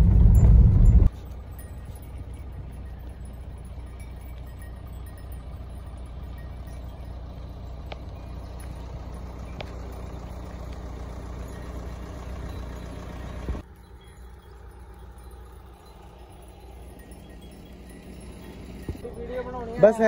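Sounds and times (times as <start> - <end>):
clinks: 0.0 - 20.0
low engine-like hum: 0.0 - 20.0
outdoor background noise: 0.0 - 20.0.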